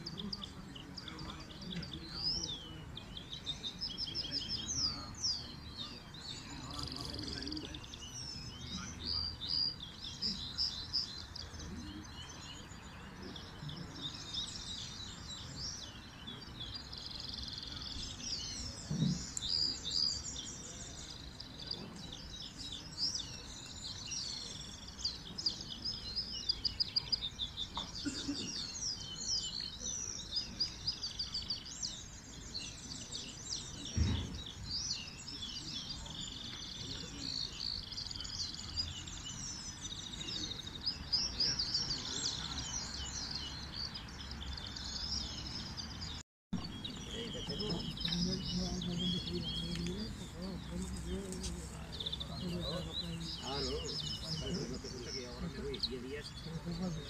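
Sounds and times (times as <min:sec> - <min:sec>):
songbirds twittering and trilling: 0:00.0 - 0:57.0.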